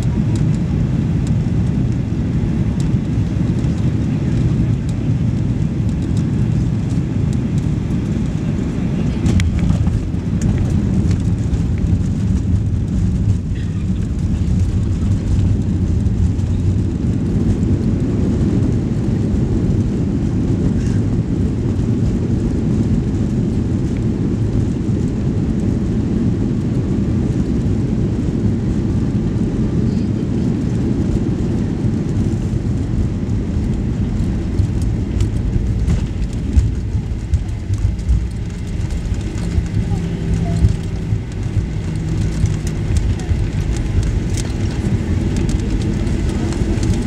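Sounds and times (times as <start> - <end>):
airplane cabin rumble: 0.0 - 47.0.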